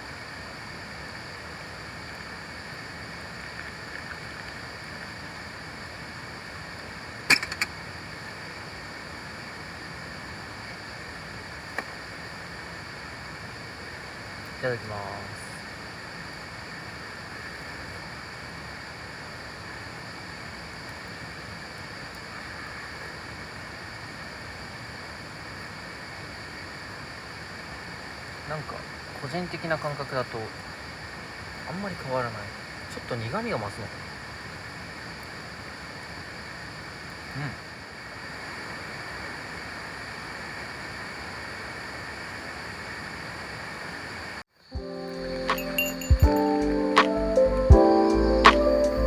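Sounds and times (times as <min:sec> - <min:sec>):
rain: 0:00.0 - 0:44.5.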